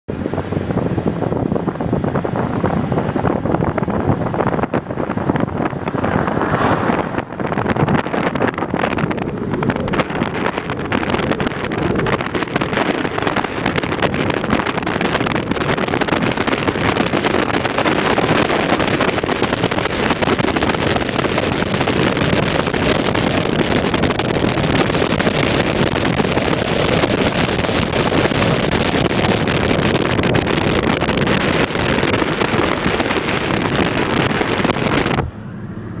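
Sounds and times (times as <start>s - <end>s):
road noise: 0.1s - 36.0s
wind rushing over microphone: 0.1s - 36.0s.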